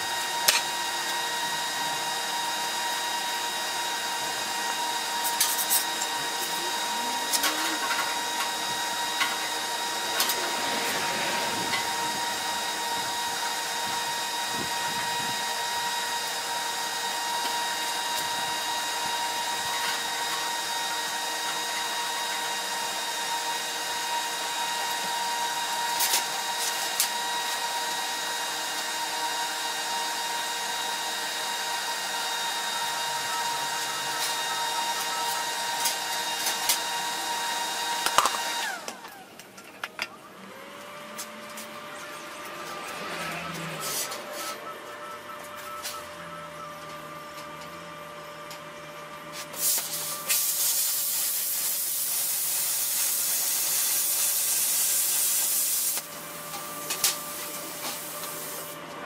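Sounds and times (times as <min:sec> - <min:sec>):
electrical machine hum and whine: 0:00.0 - 0:59.0.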